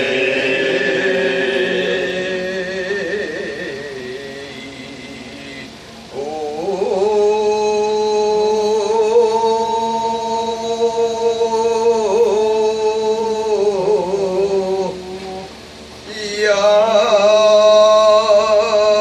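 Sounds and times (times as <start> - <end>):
man singing a long note: 0.0 - 19.0.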